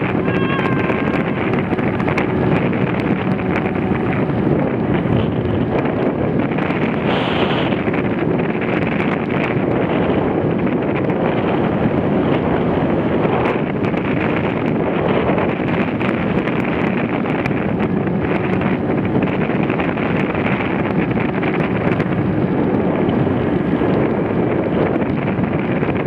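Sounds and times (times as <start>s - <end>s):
jet ski engine: 0.0s - 26.0s
wind buffeting microphone: 0.0s - 26.0s.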